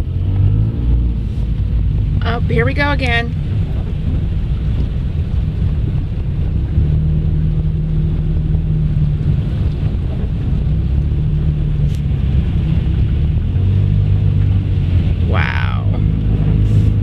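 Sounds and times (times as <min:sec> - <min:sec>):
car engine hum: 0:00.0 - 0:17.0
water rushing under tyres: 0:00.0 - 0:17.0.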